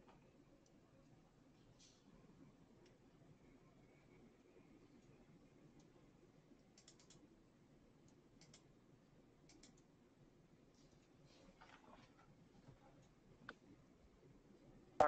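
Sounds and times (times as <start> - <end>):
faint keyboard typing: 0.0 - 7.4, 8.0 - 10.0, 10.7 - 13.8.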